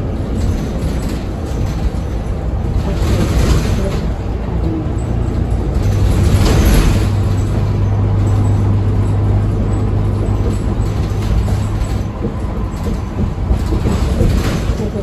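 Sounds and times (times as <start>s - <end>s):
bus road and engine roar: 0.0s - 15.0s
low engine drone: 0.0s - 15.0s.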